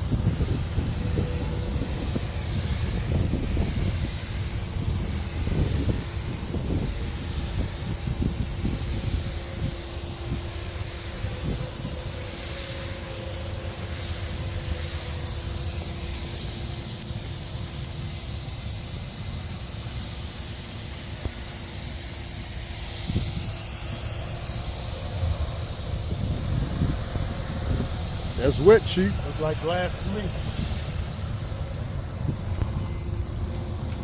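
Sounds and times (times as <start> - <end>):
spray gun hissing: 0.0 - 34.0
steady low hum: 0.0 - 34.0.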